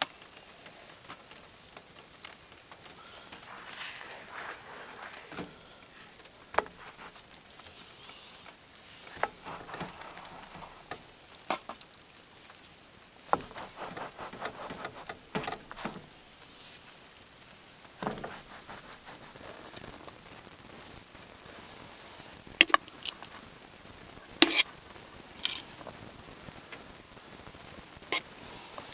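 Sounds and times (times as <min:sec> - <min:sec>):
food frying in a pan: 0:00.0 - 0:28.9.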